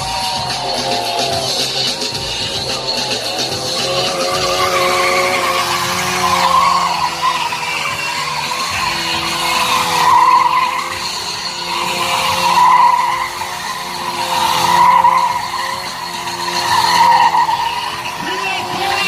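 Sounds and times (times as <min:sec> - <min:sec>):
motorcycle engine at high revs: 0:00.0 - 0:19.0
tyre skidding: 0:00.0 - 0:19.0.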